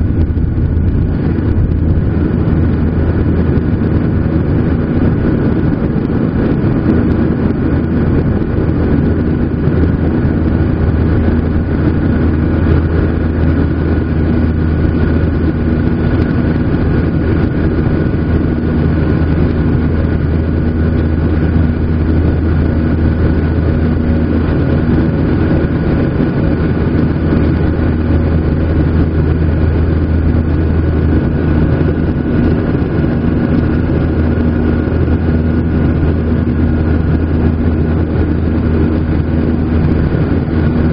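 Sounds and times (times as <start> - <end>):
jet engine cabin rumble: 0.0 - 40.9
steady whine: 0.0 - 40.9.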